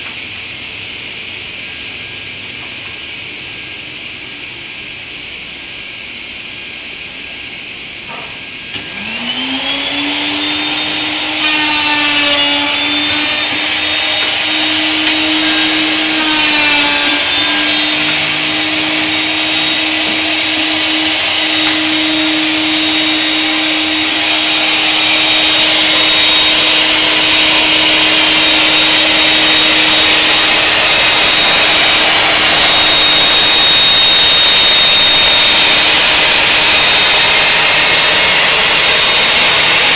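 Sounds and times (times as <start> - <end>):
router high whine: 5.1 - 39.9.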